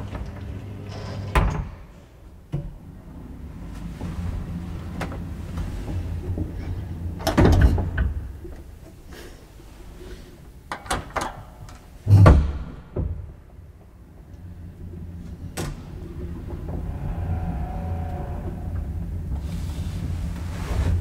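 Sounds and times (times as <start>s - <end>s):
elevator low hum: 0.0s - 21.0s.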